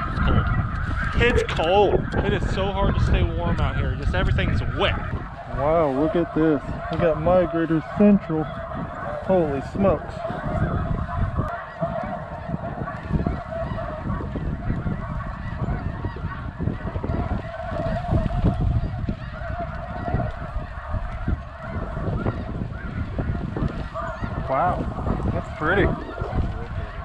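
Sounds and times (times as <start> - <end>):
geese honking in flight: 0.0 - 27.0
wind gusting on microphone: 0.0 - 27.0.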